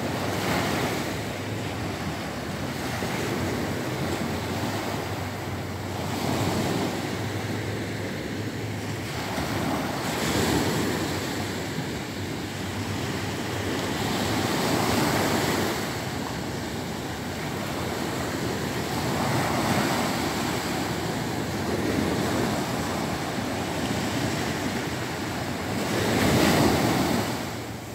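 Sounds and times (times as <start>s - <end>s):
sea waves breaking on beach: 0.0s - 27.9s.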